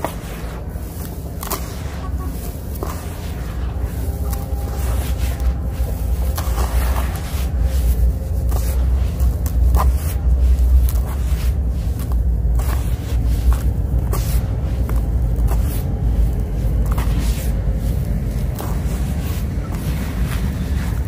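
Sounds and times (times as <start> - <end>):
hands crunching gritty sand: 0.0 - 21.0
steady low rumble: 0.0 - 21.0.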